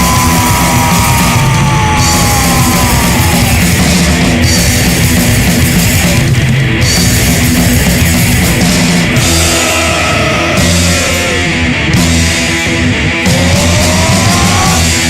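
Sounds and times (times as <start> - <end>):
distorted electric guitar: 0.0 - 15.0
punk rock band playing: 0.0 - 15.0.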